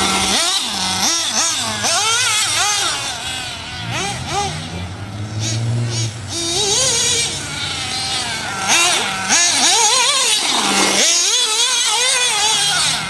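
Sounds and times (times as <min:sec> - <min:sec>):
toy buggy motor revving: 0:00.0 - 0:13.0.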